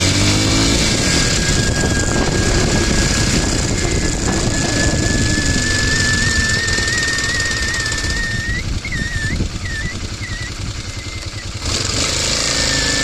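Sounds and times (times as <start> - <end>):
high-pitched squeal: 0.0 - 13.0
moving vehicle rumble: 0.0 - 13.0.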